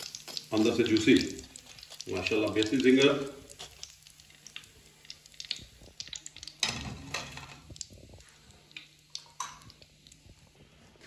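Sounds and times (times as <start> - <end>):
frying oil crackling: 0.0 - 11.0.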